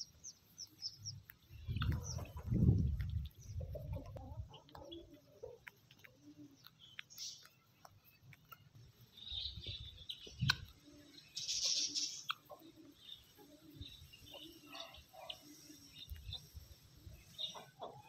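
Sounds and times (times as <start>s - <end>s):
birds chirping: 0.0s - 18.0s
chickens clucking: 0.0s - 18.0s.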